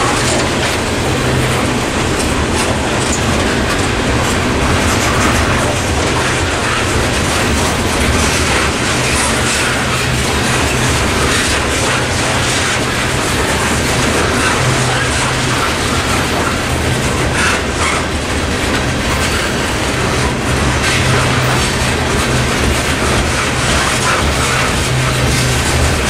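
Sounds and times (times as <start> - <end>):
freight train wheels clacking: 0.0 - 26.0.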